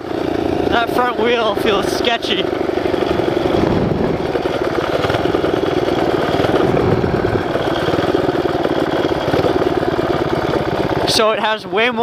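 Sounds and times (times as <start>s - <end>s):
small engine running hard: 0.0s - 12.0s.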